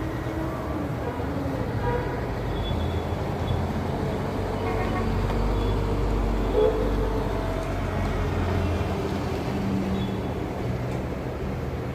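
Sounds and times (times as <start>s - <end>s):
low rumble of road traffic: 0.0s - 11.9s.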